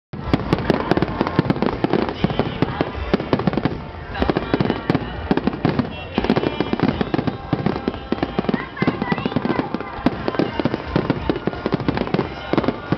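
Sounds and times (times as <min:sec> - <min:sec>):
fireworks bangs and bursts: 0:00.2 - 0:12.9.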